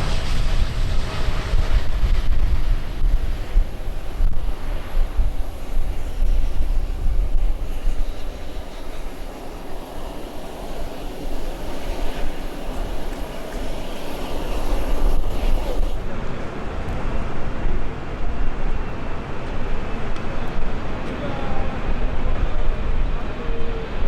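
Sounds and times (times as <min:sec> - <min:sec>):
jet engine rumbling: 0:00.0 - 0:24.0.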